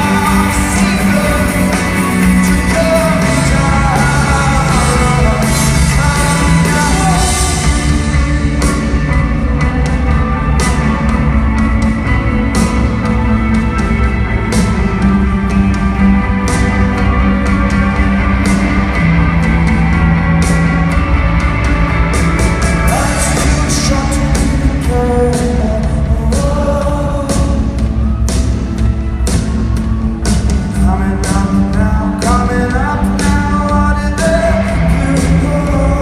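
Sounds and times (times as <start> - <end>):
person singing: 0.0 - 19.9, 22.2 - 28.8, 29.4 - 36.0
bass: 0.0 - 36.0
drums: 0.0 - 36.0
guitars: 0.0 - 36.0.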